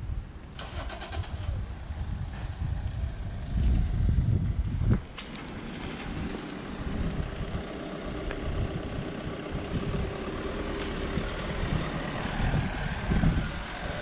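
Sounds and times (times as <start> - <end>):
traffic noise: 0.0 - 14.0
vehicle engine running close: 0.6 - 14.0
low rumble: 1.2 - 14.0.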